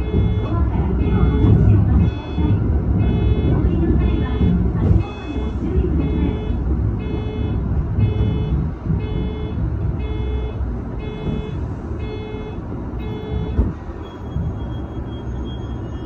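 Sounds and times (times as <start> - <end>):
electronic beeps: 0.0 - 16.0
train running rumble: 0.0 - 16.0.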